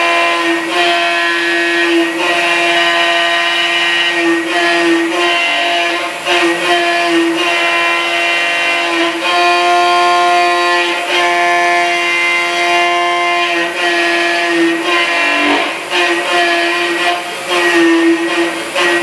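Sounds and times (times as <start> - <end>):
milling cutter high whine: 0.0 - 19.0.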